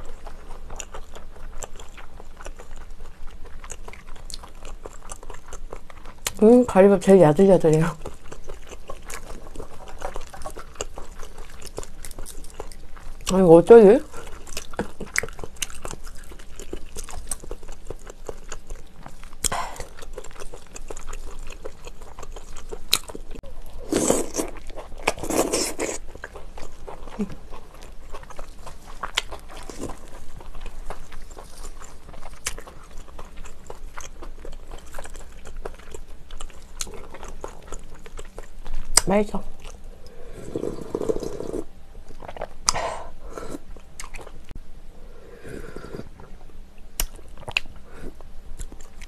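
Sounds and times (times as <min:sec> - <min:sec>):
wet chewing and biting: 0:00.0 - 0:06.5, 0:07.7 - 0:13.4, 0:14.0 - 0:39.8, 0:47.0 - 0:49.0.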